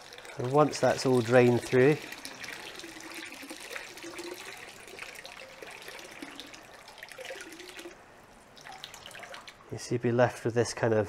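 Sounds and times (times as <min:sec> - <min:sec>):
water splashing into tank: 0:00.0 - 0:09.7.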